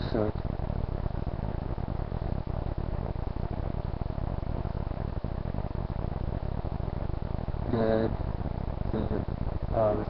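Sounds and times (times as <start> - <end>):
low hum: 0.0 - 10.0
microphone hiss: 0.0 - 10.0.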